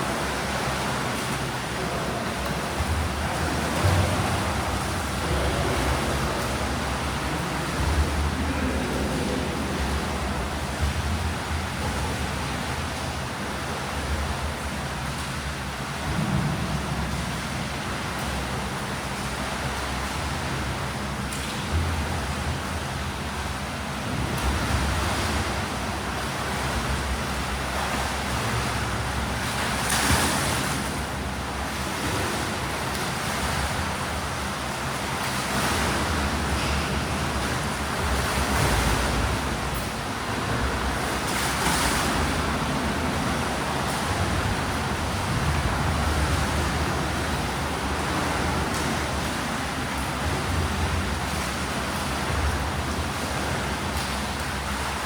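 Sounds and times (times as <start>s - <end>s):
swimmers splashing water: 0.0s - 14.8s, 22.8s - 55.0s.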